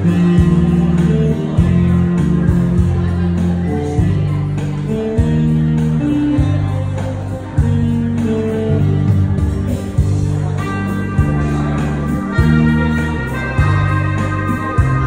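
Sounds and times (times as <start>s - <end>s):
synthesizer bass and chords: 0.0s - 15.0s
synthesizer melody: 0.0s - 15.0s.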